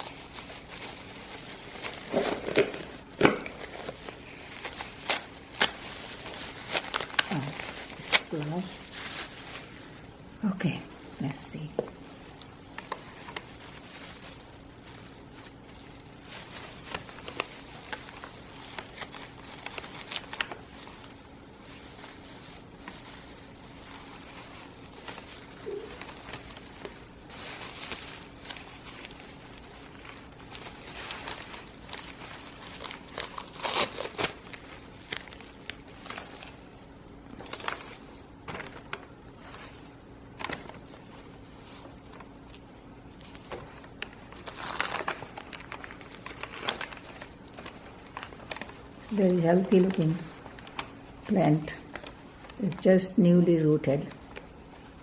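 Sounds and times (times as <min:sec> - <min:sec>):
packaging tearing: 0:00.0 - 0:09.9, 0:12.4 - 0:36.6, 0:37.4 - 0:39.8, 0:40.4 - 0:52.8
packaging crinkling and rustling: 0:00.0 - 0:55.0.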